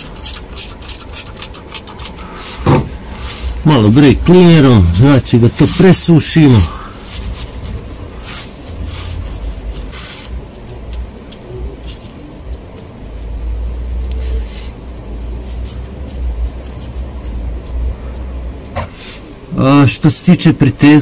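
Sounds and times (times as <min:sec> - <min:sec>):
rag rubbing: 0:00.0 - 0:18.0
steady low rumble: 0:00.0 - 0:20.8.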